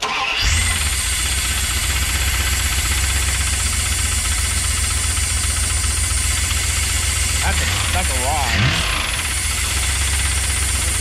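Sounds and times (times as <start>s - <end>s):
truck engine idling: 0.2s - 11.0s
engine knocking: 0.4s - 11.0s.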